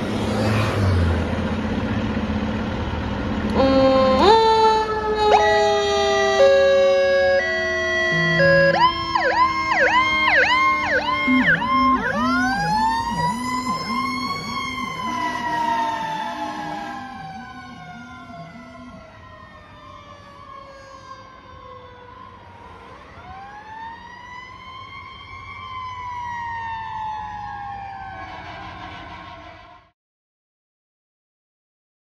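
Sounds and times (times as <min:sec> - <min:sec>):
fire truck siren wailing: 0:00.0 - 0:30.0
low fast siren warble: 0:03.5 - 0:29.9.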